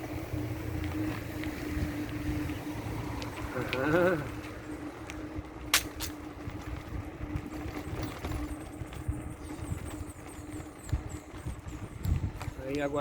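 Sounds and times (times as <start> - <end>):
bicycle road noise: 0.0 - 13.0
wind buffeting microphone: 0.0 - 13.0.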